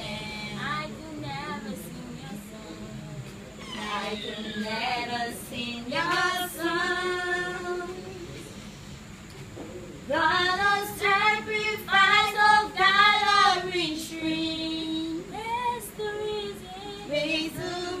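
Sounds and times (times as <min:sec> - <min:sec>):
girl singing unaccompanied: 0:00.0 - 0:08.4, 0:10.1 - 0:18.0.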